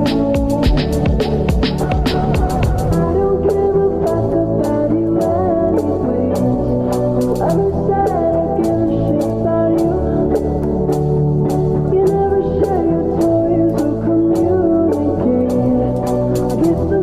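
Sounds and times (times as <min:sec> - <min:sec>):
background music with guitar: 0:00.0 - 0:17.0.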